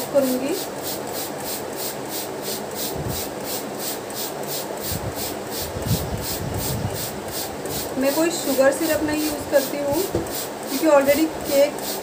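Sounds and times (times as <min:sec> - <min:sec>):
spray bottle spraying water: 0:00.2 - 0:12.0.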